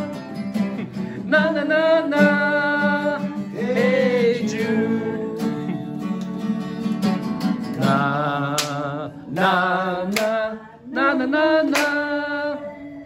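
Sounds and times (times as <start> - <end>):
strummed acoustic guitar: 0.0 - 10.7
person singing: 0.8 - 6.5, 7.8 - 13.0.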